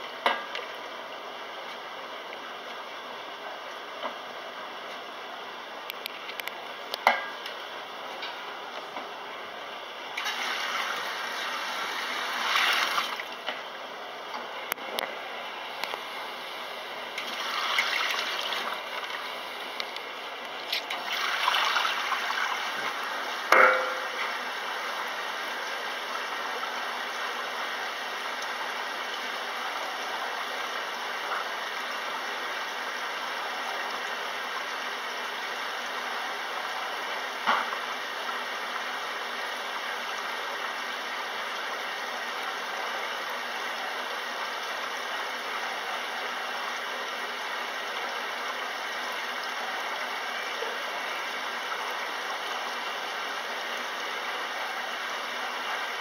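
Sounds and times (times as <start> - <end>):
washer filling with water: 0.0 - 56.0.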